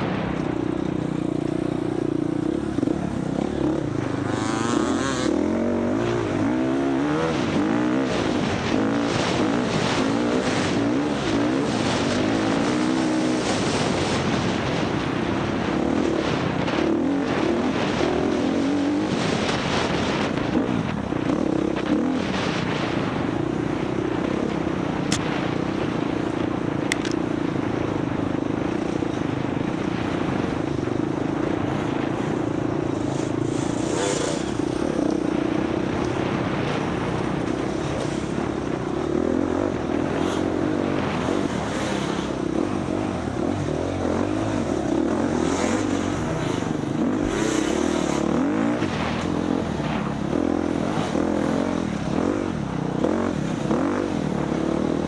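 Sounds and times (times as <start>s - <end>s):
dirt bike engine revving: 0.0s - 55.0s
rushing wind: 0.0s - 55.0s
terrain noise: 0.0s - 55.0s.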